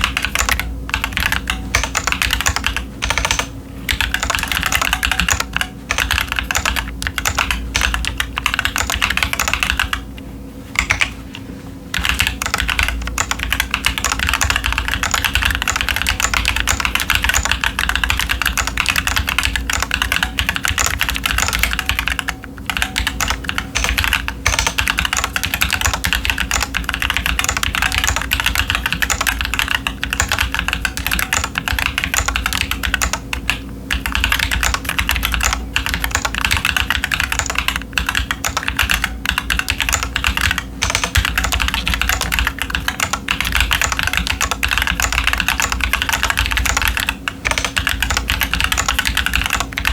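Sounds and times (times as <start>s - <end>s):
mechanical keyboard typing: 0.0s - 10.1s, 10.8s - 11.2s, 11.9s - 49.9s.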